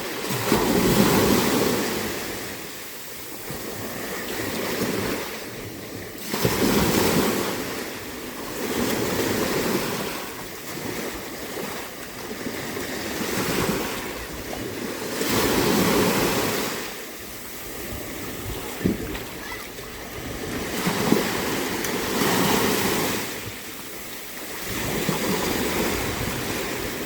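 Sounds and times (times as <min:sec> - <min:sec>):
sea waves washing in: 0:00.0 - 0:27.0.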